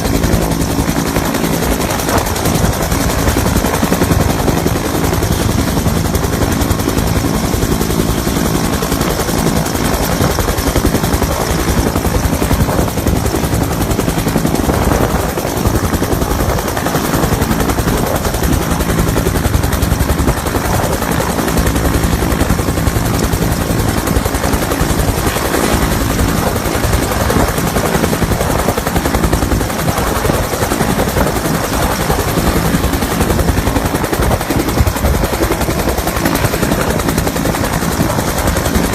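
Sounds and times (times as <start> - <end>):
helicopter engine roar: 0.0 - 38.9
helicopter rotors chopping: 0.0 - 38.9.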